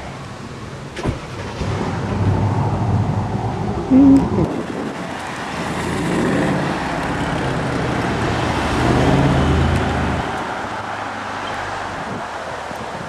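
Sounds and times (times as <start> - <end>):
car engines accelerating hard: 0.7 - 13.0.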